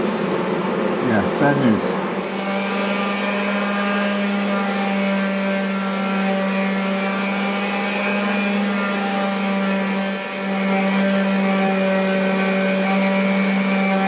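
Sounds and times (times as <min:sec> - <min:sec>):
electric sander motor humming: 0:01.4 - 0:14.0.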